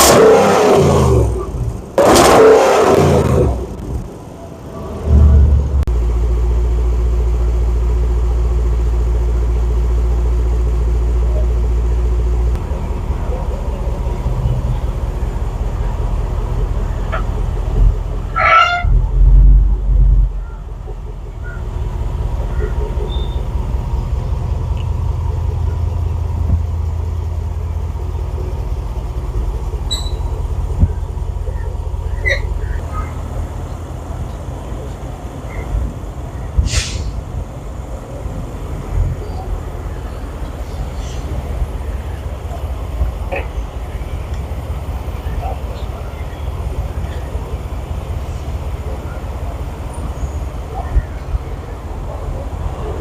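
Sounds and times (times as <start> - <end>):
car engine starting and idling: 0.0 - 53.0.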